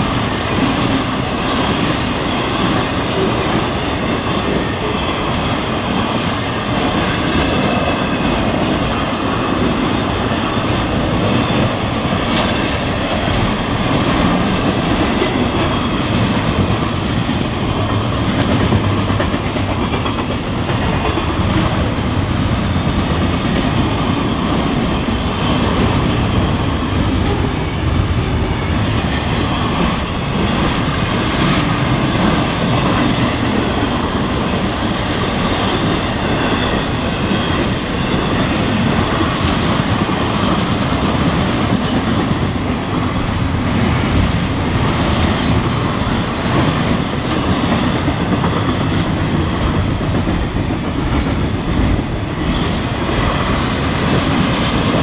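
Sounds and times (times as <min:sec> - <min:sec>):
clickety-clack of wheels over track: 0:00.0 - 0:55.0
train wheels rumbling on rails: 0:00.0 - 0:55.0.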